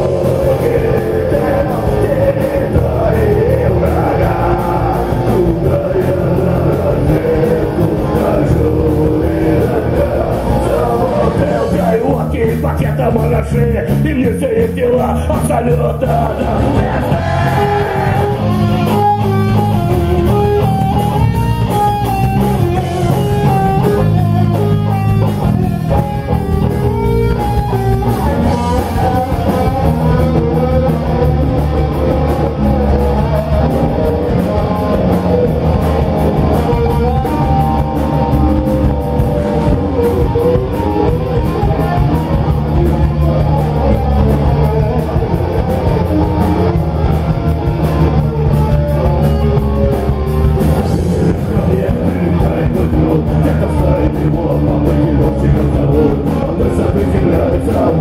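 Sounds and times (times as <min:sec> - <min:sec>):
guitar melody: 0:00.0 - 0:58.0
rock band playing live: 0:00.0 - 0:58.0.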